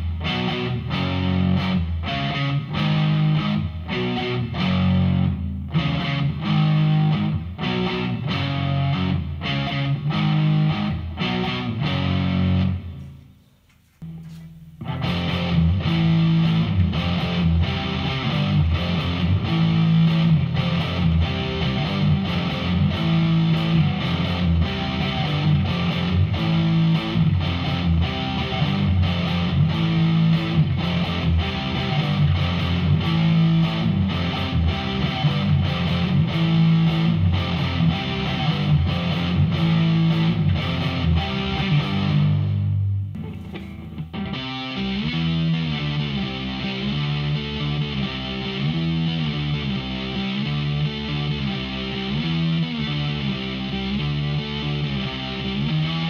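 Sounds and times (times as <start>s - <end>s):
distorted electric guitar riff: 0.0s - 13.4s, 14.0s - 56.0s.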